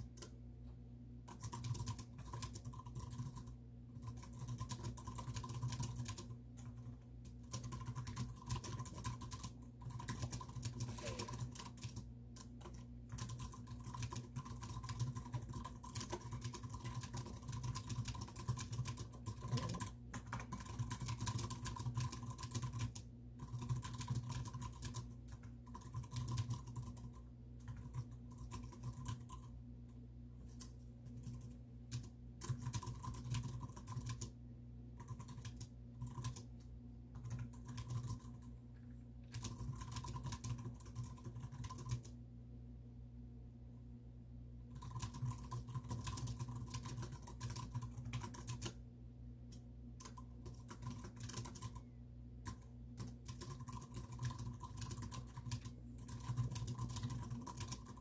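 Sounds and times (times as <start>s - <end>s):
typing on computer keyboard: 0.0s - 0.4s, 1.3s - 29.6s, 30.5s - 34.4s, 35.0s - 38.5s, 39.2s - 42.2s, 44.7s - 48.8s, 49.5s - 58.0s.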